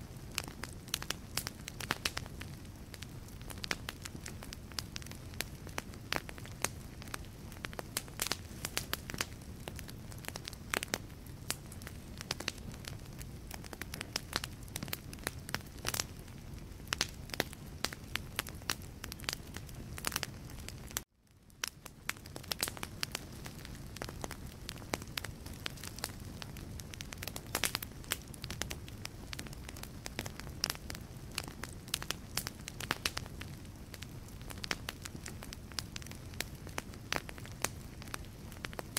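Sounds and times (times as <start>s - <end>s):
low rumble of flame: 0.0s - 38.9s
logs crackling with sharp pops: 0.1s - 38.9s.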